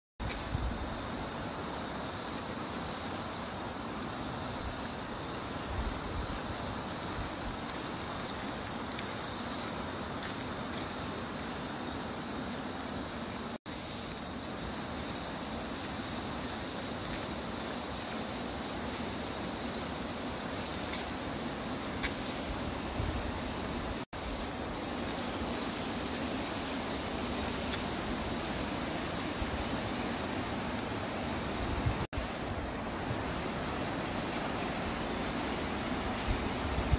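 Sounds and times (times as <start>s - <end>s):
outdoor background hiss: 0.2s - 36.9s.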